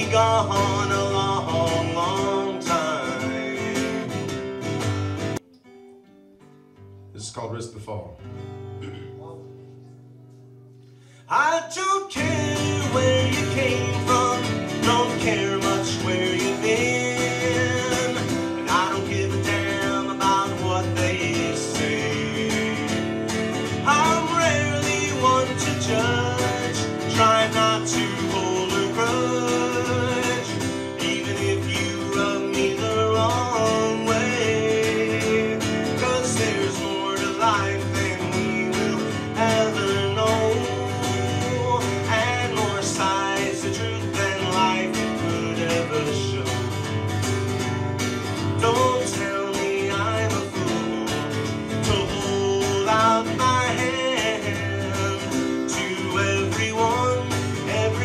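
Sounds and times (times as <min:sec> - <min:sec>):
man singing: 0:00.0 - 0:04.6, 0:11.3 - 0:47.0, 0:48.3 - 0:58.0
strummed acoustic guitar: 0:00.0 - 0:58.0.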